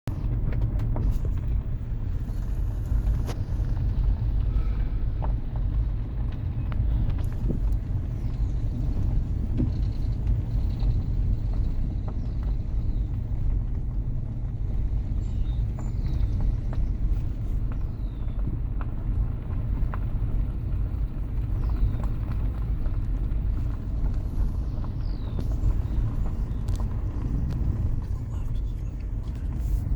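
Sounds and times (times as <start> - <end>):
low rumble: 0.1 - 29.9.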